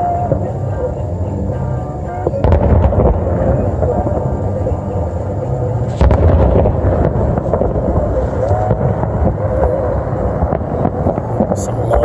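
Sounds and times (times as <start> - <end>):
wind rumble on microphone: 0.0 - 12.0
fireworks bang: 2.2 - 12.0.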